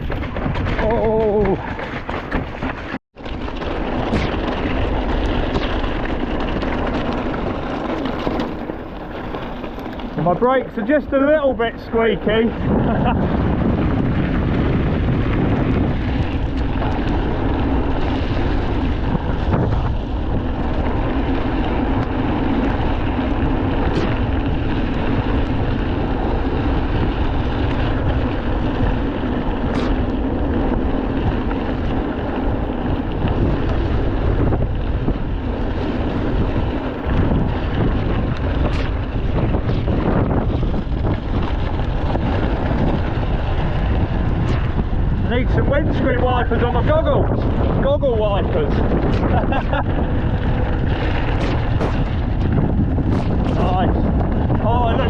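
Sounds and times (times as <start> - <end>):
bike rumble on wet trail: 0.0 - 55.0
wind on microphone: 0.0 - 55.0.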